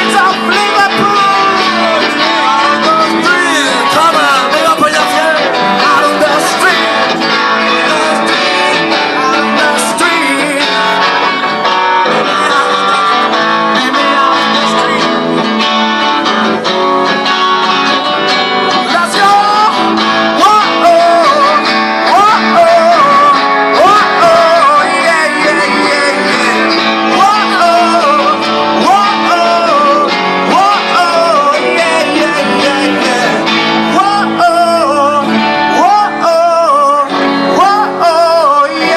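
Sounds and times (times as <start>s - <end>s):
acoustic guitars strumming: 0.0s - 38.9s
person singing: 0.0s - 38.9s.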